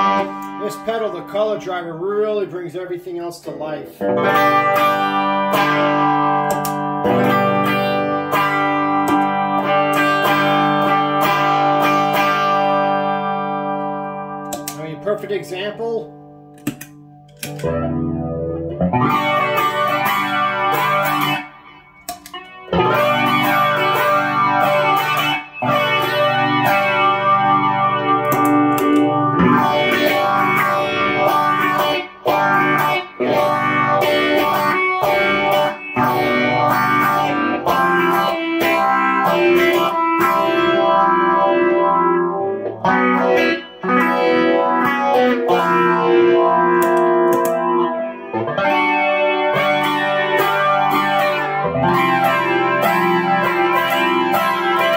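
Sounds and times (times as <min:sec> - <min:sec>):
distorted electric guitar: 0:00.0 - 0:54.9.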